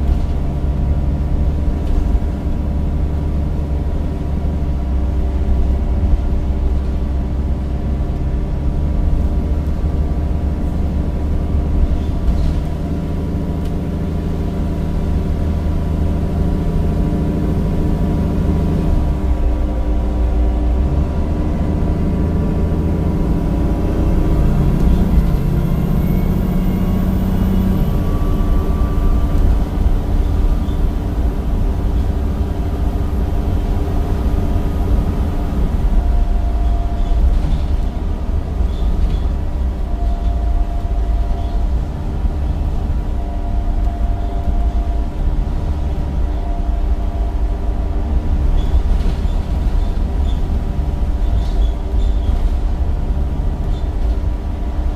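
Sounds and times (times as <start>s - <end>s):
bus engine droning: 0.0s - 54.9s.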